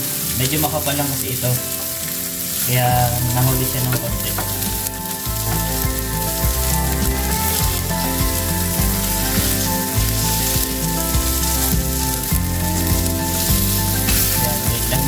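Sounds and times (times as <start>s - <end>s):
background music with low notes: 0.0s - 15.0s
fish sizzling in a pan: 0.0s - 15.0s.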